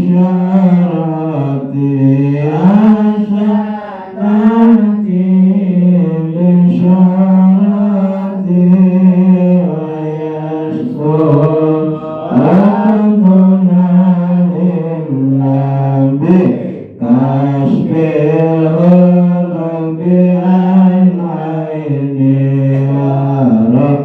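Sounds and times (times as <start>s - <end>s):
man chanting a prayer: 0.0s - 24.0s.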